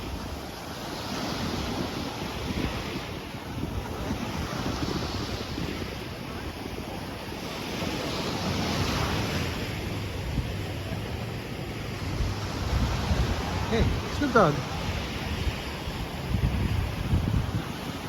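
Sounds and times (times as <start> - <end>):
sea surf washing on beach: 0.0 - 18.0
wind buffeting microphone: 0.0 - 18.0.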